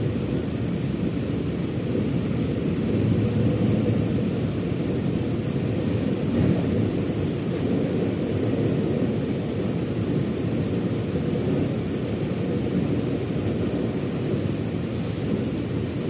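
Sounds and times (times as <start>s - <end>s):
metro train rumbling: 0.0s - 16.0s.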